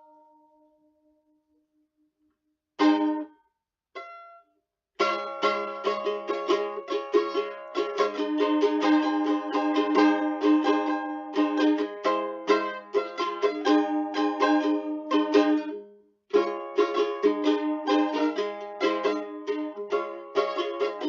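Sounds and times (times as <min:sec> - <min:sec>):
plucked string instrument strumming: 0:02.8 - 0:03.4, 0:04.0 - 0:04.4, 0:05.0 - 0:21.0.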